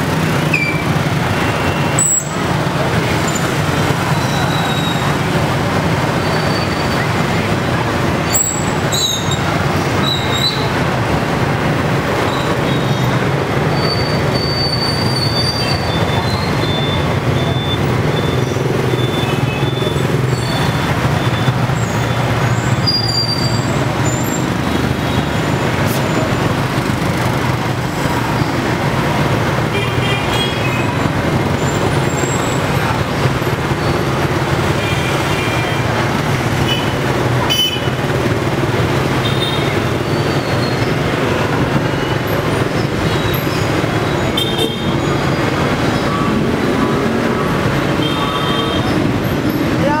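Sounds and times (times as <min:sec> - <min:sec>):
traffic engine rumble: 0:00.0 - 0:50.0.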